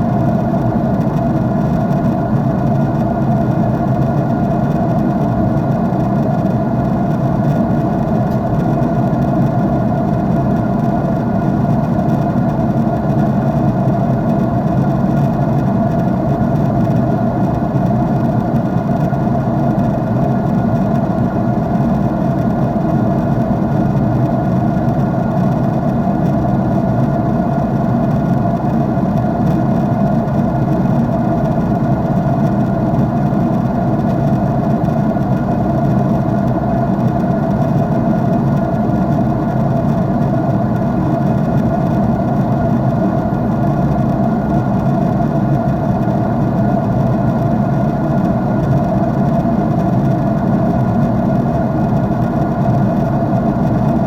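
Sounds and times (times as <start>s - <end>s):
jet engine hum in cabin: 0.0s - 54.0s.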